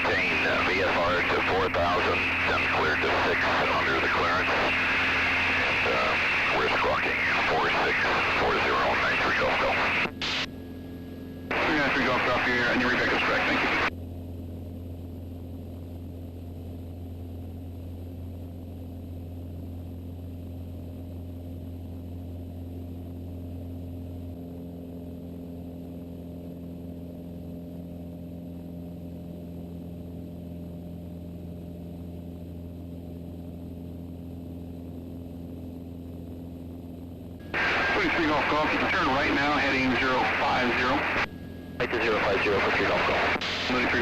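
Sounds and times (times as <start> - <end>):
airplane engine droning in cabin: 0.0 - 44.0.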